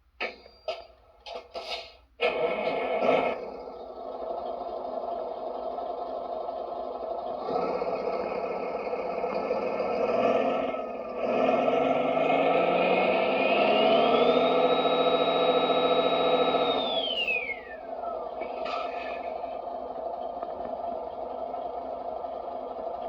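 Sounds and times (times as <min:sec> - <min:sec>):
simulated diesel engine revving: 0:02.2 - 0:23.0.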